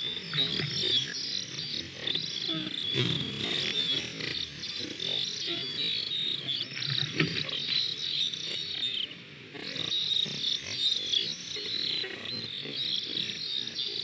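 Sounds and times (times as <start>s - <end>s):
bird chicks begging calls: 0.0s - 14.0s.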